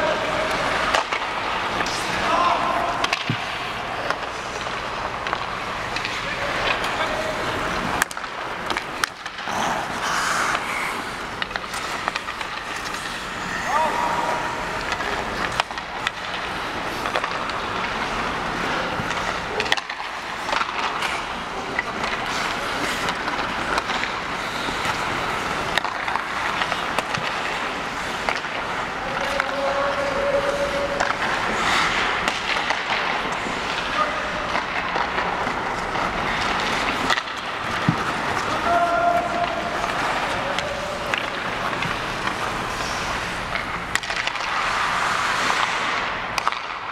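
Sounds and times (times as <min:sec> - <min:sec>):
skates scraping on ice: 0:00.0 - 0:46.9
sticks and pucks clacking: 0:00.0 - 0:46.9.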